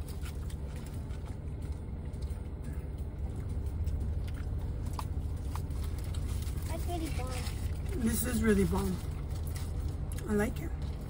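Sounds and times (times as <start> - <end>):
air conditioning running: 0.0 - 11.0
car idling hum: 0.0 - 11.0.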